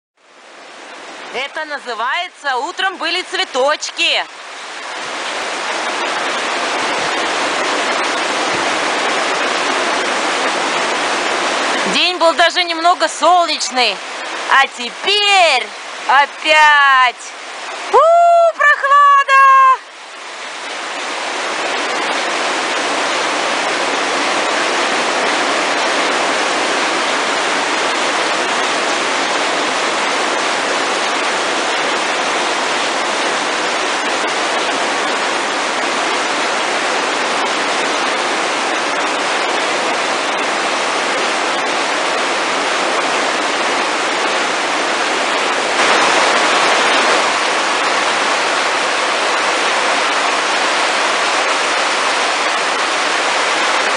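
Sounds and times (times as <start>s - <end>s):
heavy rain: 0.2s - 53.9s.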